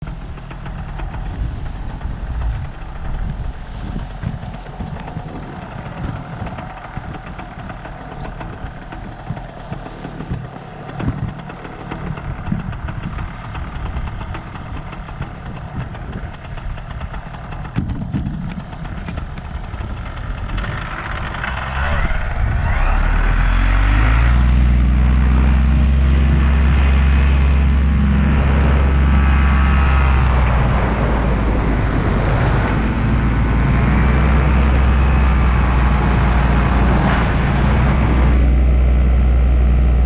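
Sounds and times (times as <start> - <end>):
small engine running: 0.0 - 40.0
wind buffeting microphone: 0.0 - 40.0.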